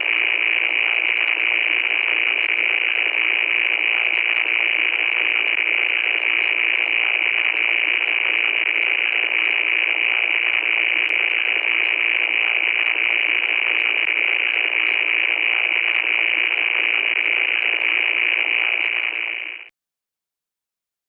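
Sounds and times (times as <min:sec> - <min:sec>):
static hiss: 0:00.0 - 0:19.7.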